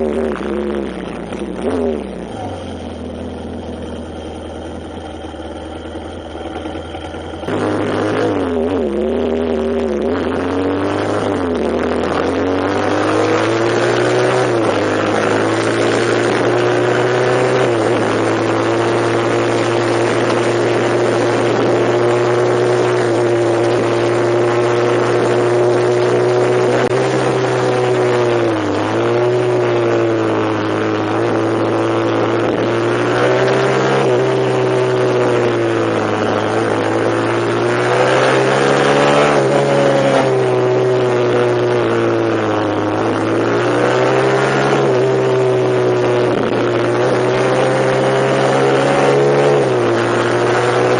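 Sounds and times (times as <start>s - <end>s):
vehicle engine running under load: 0.0s - 50.9s.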